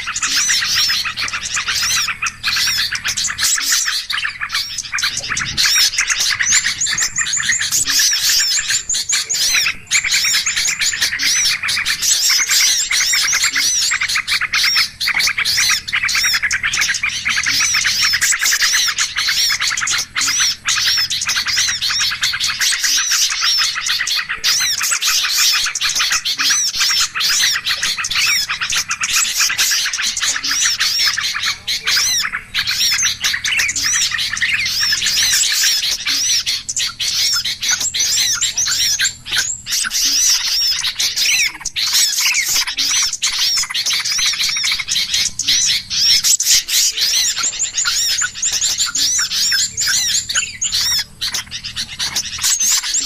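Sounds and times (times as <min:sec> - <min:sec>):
songbirds chirping chorus: 0:00.0 - 0:53.0.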